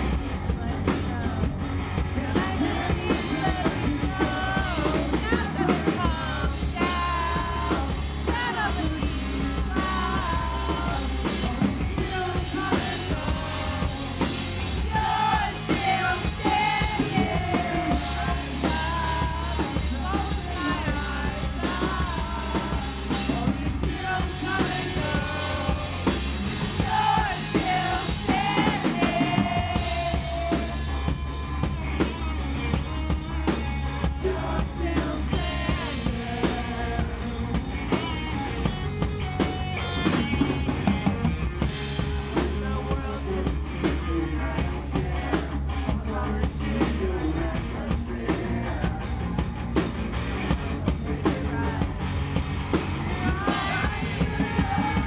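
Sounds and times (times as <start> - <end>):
male lead vocal: 0.0 - 38.8, 42.0 - 55.0
electric guitar: 0.0 - 55.0
loud drum kit: 0.0 - 55.0
rock band playing: 0.0 - 55.0.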